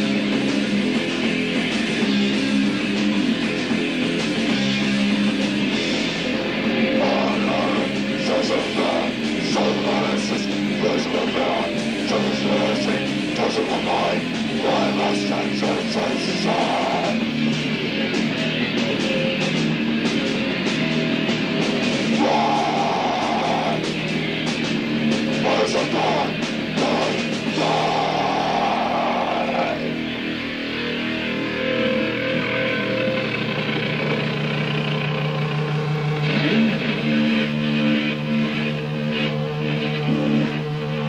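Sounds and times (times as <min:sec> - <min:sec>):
bass and drums: 0:00.0 - 0:41.0
distorted electric guitar strumming: 0:00.0 - 0:41.0
punk band playing: 0:00.0 - 0:41.0.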